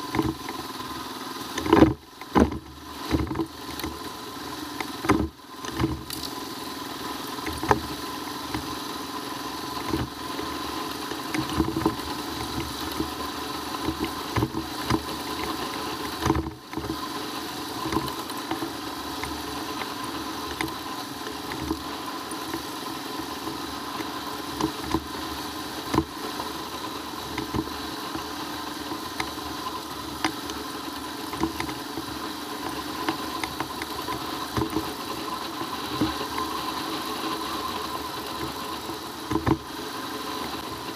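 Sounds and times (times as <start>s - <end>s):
bike knocking and rattling: 0.0s - 39.8s
motorcycle engine running: 0.0s - 40.9s.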